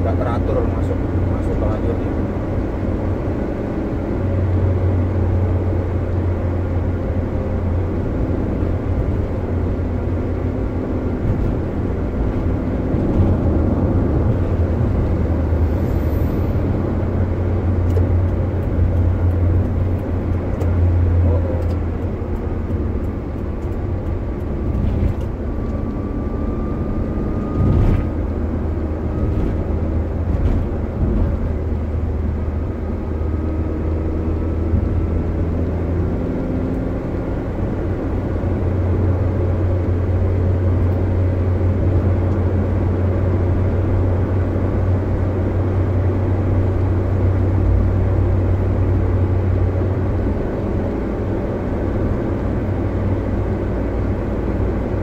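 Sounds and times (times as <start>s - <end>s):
engine drone: 0.0s - 55.0s
road and tyre noise: 0.0s - 55.0s.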